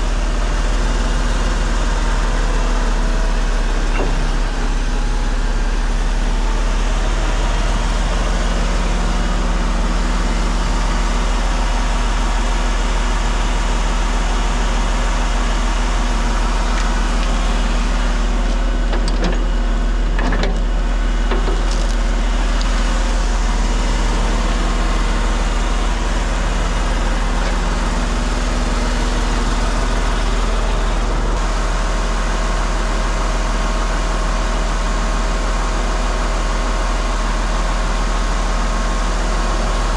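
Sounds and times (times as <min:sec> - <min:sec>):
truck diesel engine humming: 0:00.0 - 0:39.9.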